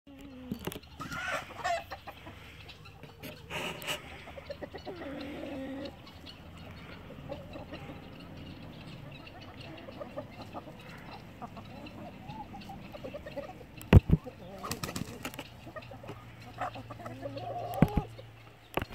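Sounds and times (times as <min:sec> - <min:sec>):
chickens clucking: 0:00.1 - 0:18.9
drawn-out chicken call: 0:00.1 - 0:18.9
chicken squawk: 0:00.9 - 0:18.2.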